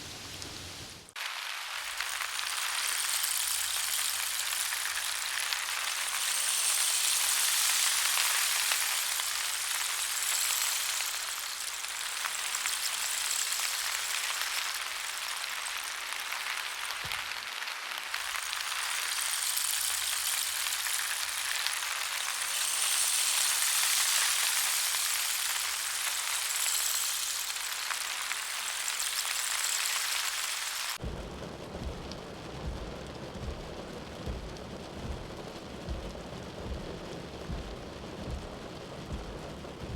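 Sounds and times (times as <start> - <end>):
duller rain with low rumbling: 0.0 - 39.9
heavy rain hissing: 0.0 - 39.9.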